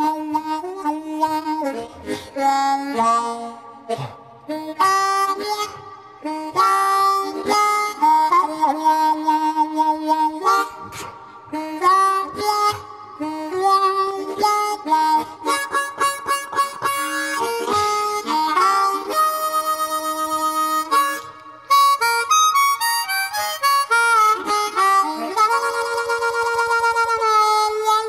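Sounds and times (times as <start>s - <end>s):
harmonica blues tune: 0.0s - 28.0s.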